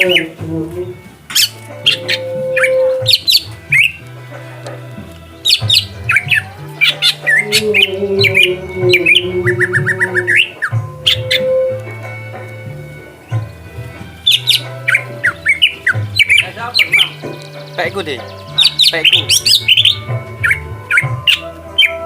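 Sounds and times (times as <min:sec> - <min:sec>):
bird calling sharp notes: 0:00.0 - 0:22.0
pop song with bass line: 0:00.0 - 0:22.0.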